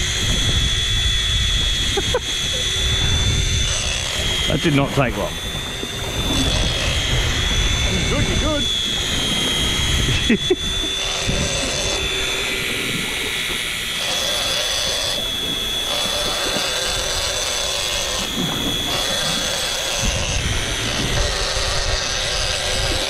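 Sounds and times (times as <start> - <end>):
motor running with whine: 0.0 - 23.0
sea noise: 0.0 - 23.0
wind: 0.0 - 23.0.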